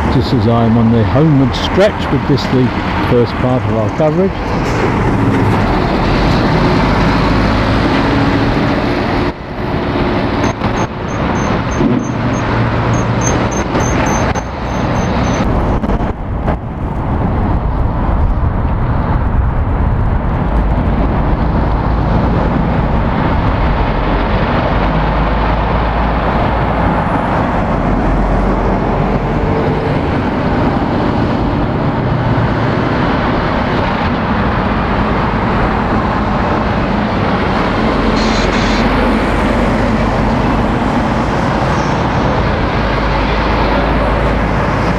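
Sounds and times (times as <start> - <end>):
lorry diesel engines: 0.0 - 44.9
tyre and road noise: 0.0 - 44.9.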